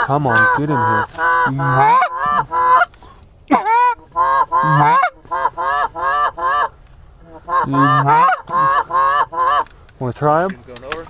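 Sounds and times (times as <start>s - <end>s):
goose call honks and clucks: 0.0s - 9.7s.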